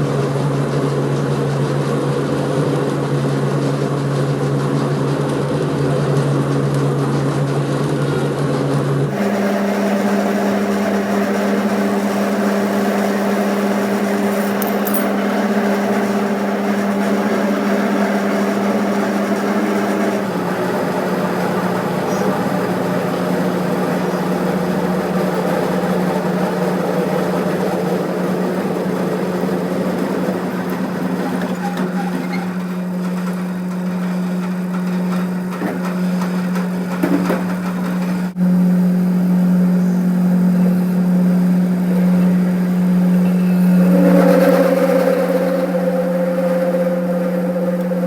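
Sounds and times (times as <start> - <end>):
workshop machine humming: 0.0 - 48.0.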